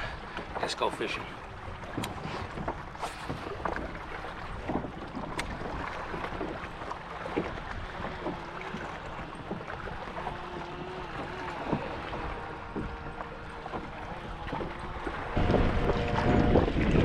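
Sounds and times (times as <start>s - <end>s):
water lapping against kayak hull: 0.0s - 17.0s
wind on microphone: 1.6s - 17.0s.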